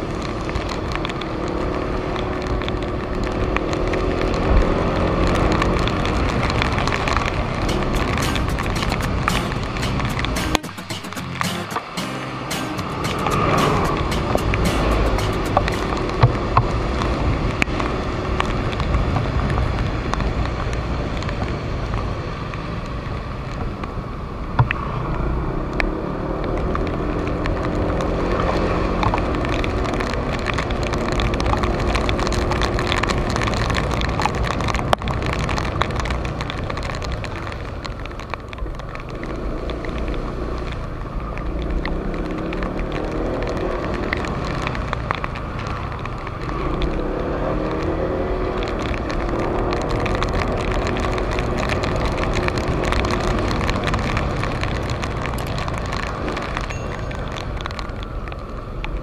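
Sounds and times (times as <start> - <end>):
tyre noise on wet road: 0.0 - 59.0.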